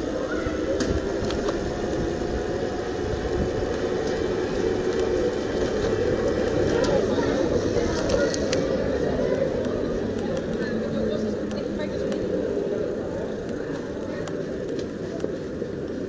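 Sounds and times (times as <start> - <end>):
faint electric motor whine: 0.0 - 16.0
wind and tyres on asphalt: 0.0 - 16.0.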